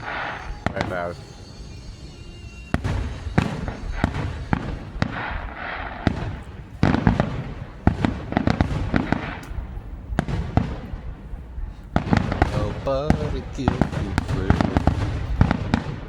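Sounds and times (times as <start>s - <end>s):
fireworks bangs and crackles: 0.0s - 16.0s
low rumble of echoing blasts: 0.0s - 16.0s.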